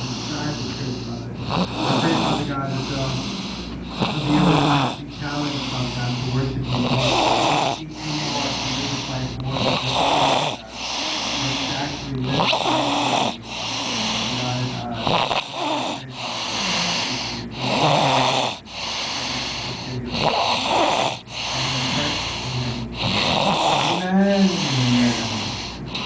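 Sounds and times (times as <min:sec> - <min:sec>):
person snoring: 0:00.0 - 0:26.0.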